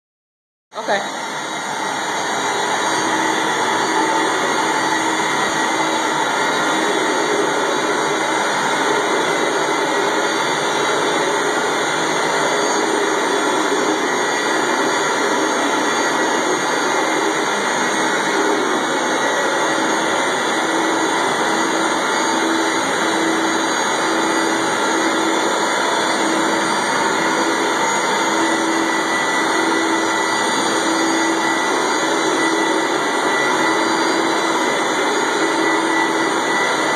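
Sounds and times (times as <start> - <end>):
carpet extractor suction roar: 0.8 - 36.9.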